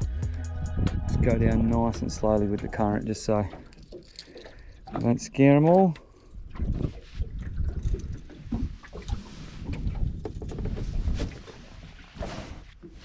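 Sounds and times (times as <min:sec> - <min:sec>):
knocks and clatter in metal boat: 0:01.9 - 0:13.0.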